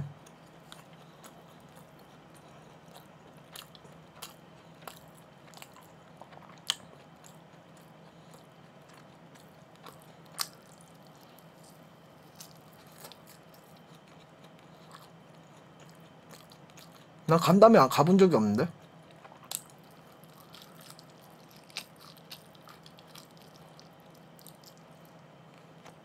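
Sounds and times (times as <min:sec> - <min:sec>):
faint low hum: 0:00.0 - 0:26.0
close-miked chewing and biting: 0:00.2 - 0:17.2, 0:18.8 - 0:26.0.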